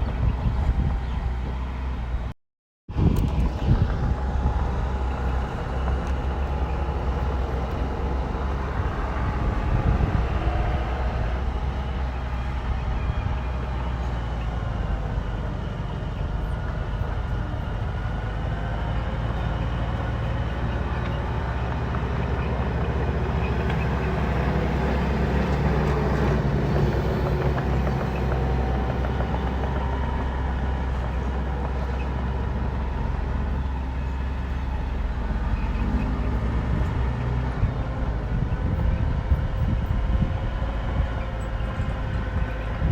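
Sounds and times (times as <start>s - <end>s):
bulldozer diesel engine drone: 0.0s - 2.3s, 2.9s - 42.9s.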